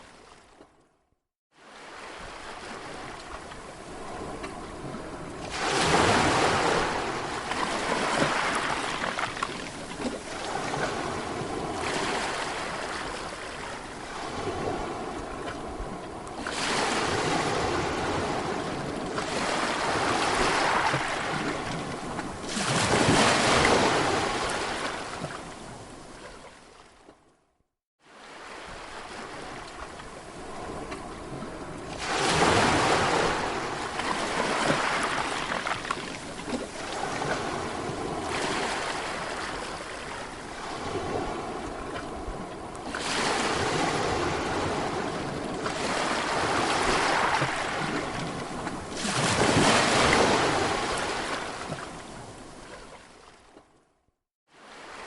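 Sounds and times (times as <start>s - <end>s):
sea waves breaking on shore: 1.5s - 27.2s, 28.0s - 53.8s, 54.5s - 55.0s.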